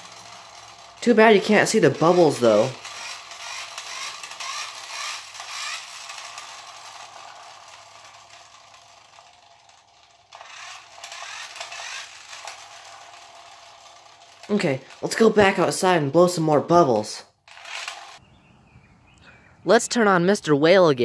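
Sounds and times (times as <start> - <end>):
toy motor whirring: 0.0 - 18.2.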